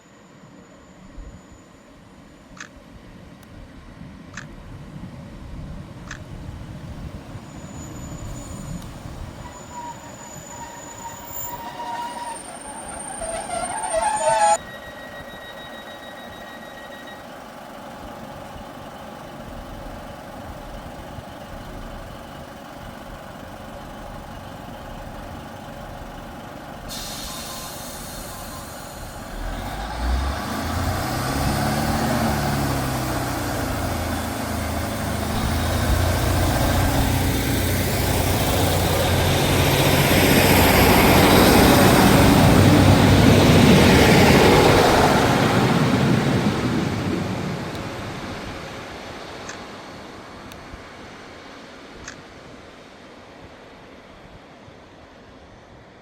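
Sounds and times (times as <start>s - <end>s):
diesel train engine: 0.0s - 56.0s
train rushing noise: 1.0s - 56.0s.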